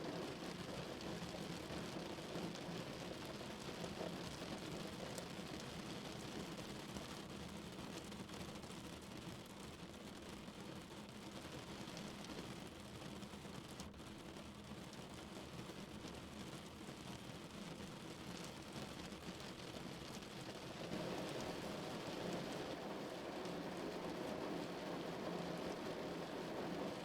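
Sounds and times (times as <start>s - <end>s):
rain on a car roof: 0.0s - 27.0s.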